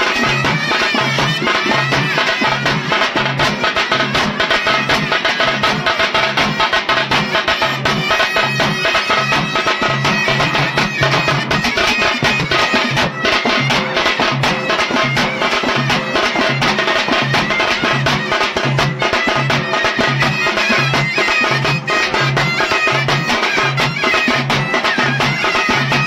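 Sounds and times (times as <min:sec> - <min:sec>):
fast drumming: 0:00.0 - 0:26.0
reedy wind instrument: 0:00.0 - 0:26.0.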